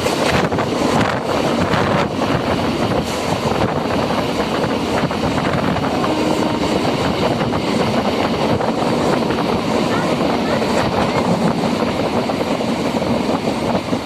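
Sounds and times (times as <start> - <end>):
electric train in motion: 0.0 - 14.0
wind buffeting microphone: 0.0 - 14.0.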